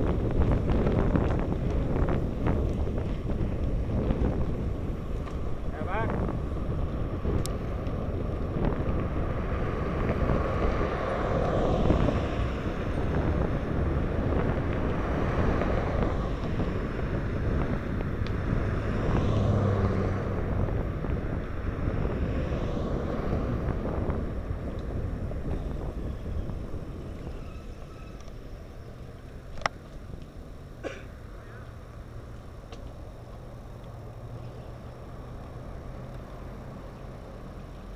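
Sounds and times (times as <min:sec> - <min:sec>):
wind buffeting microphone: 0:00.0 - 0:30.8
car passing: 0:00.0 - 0:37.9.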